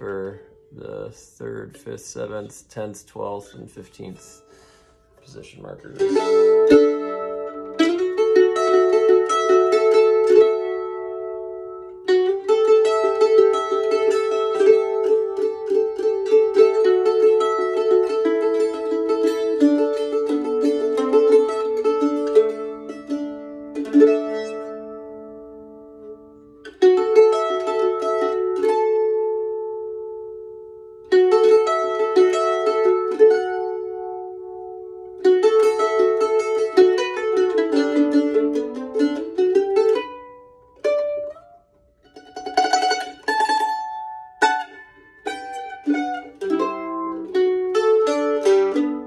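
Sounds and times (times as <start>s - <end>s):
mandolin chord ringing: 0.0s - 49.0s
mandolin playing: 0.0s - 49.0s.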